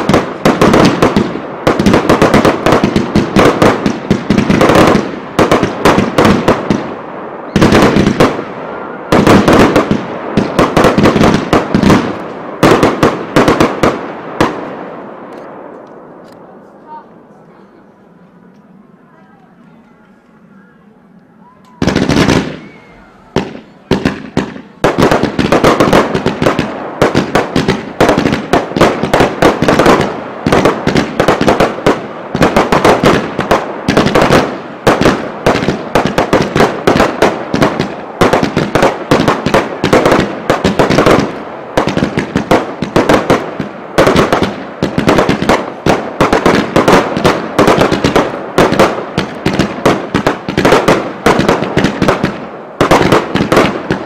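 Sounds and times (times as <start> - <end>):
fireworks bangs and crackles: 0.0 - 18.7, 21.4 - 54.0.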